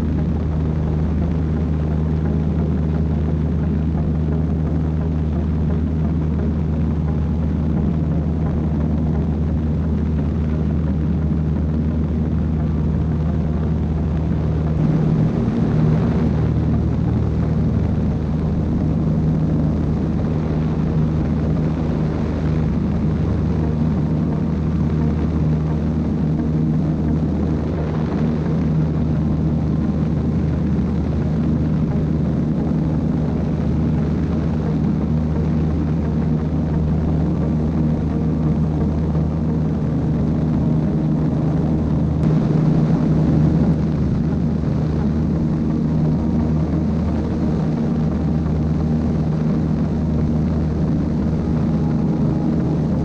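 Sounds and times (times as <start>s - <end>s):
airflow noise: 0.0s - 53.0s
plane engine and propeller drone: 0.0s - 53.0s.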